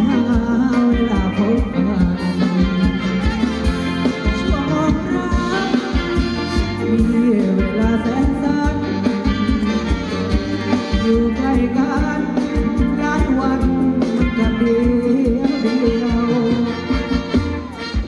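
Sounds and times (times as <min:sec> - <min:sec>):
live band playing dance song: 0:00.0 - 0:18.0.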